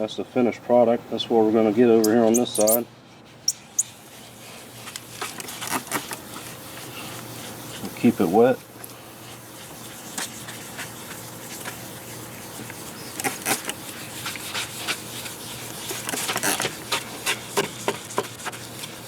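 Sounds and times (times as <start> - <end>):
hand sanding plastic: 1.9 - 19.0.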